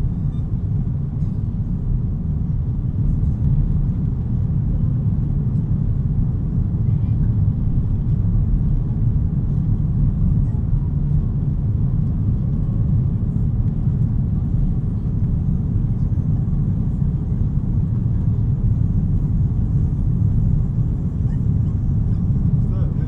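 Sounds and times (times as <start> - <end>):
jet airliner cabin rumble: 0.0 - 23.0.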